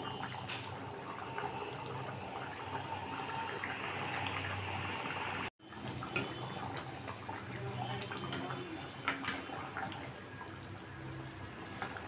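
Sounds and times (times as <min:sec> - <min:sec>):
curry bubbling and crackling: 0:00.0 - 0:12.0.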